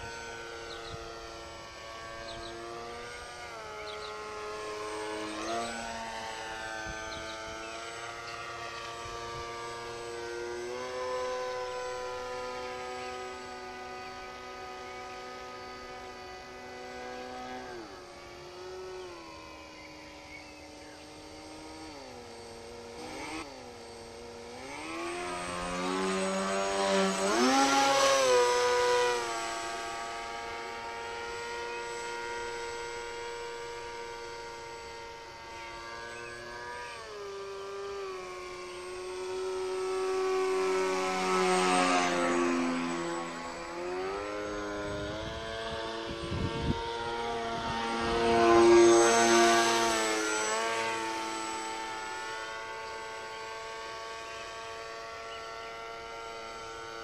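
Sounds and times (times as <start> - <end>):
model airplane motor whine: 0.0 - 57.0.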